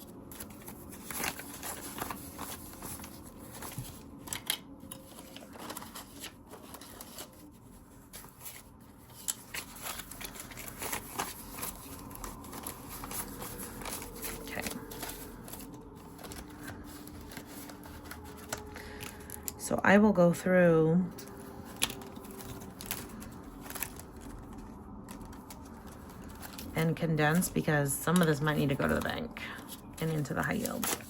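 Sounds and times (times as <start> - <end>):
banknotes rustling and flicking: 0.0 - 19.7, 21.1 - 31.0.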